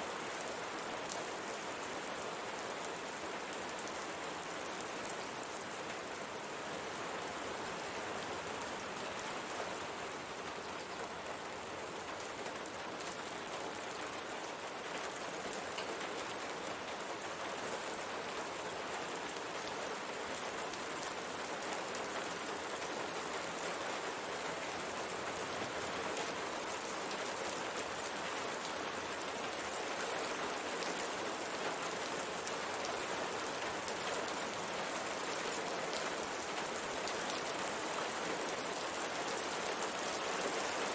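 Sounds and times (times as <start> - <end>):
rain on a window pane: 0.0 - 40.9.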